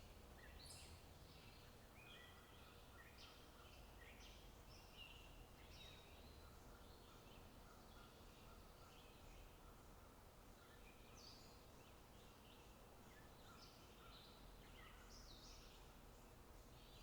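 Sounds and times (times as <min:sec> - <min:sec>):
songbirds chirping: 0:00.0 - 0:17.0
steady low background noise: 0:00.0 - 0:17.0.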